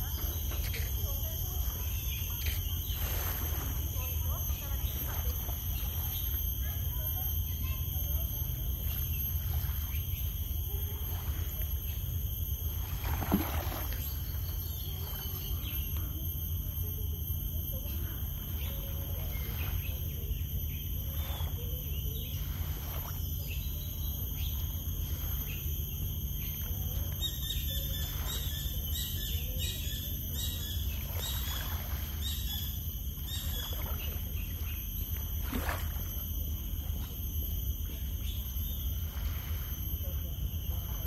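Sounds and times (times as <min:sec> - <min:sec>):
steady high-pitched tones: 0:00.0 - 0:41.0.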